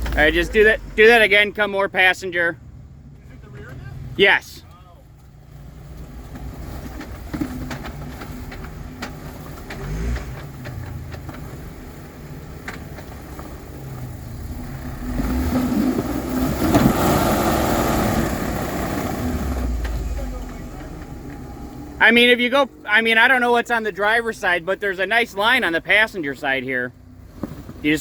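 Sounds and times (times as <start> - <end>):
vehicle engine at low revs: 0.0 - 28.0.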